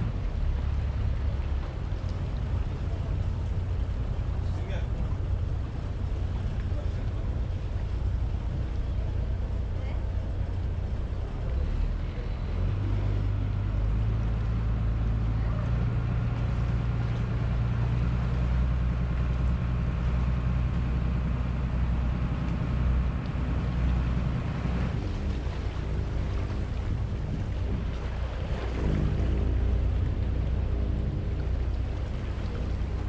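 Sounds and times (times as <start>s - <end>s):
boat engine droning: 0.0s - 33.0s
water rushing along hull: 0.0s - 33.0s.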